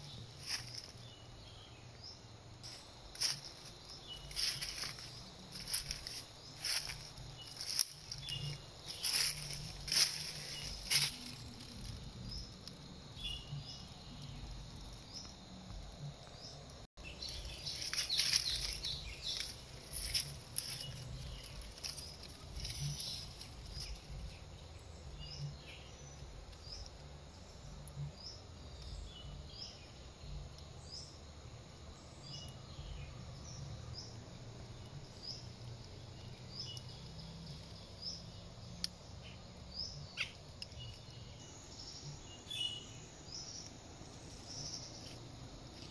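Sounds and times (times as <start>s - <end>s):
rustling in dry leaves: 0.0s - 27.8s, 32.3s - 45.9s.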